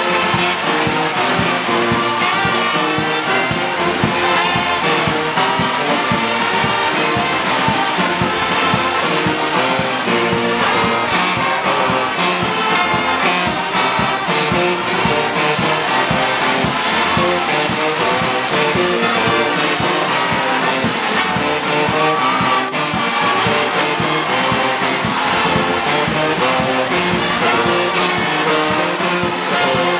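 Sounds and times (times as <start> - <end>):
brass band playing a march: 0.0 - 29.9.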